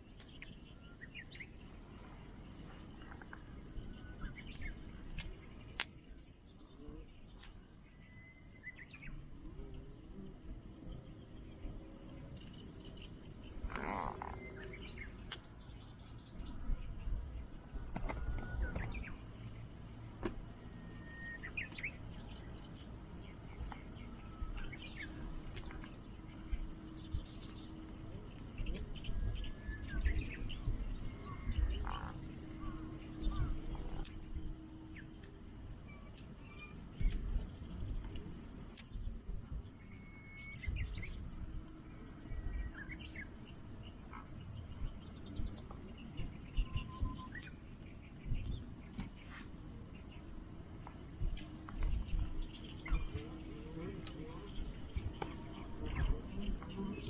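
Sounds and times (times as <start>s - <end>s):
low background rumble: 0.0s - 57.0s
small birds chirping: 0.0s - 57.0s.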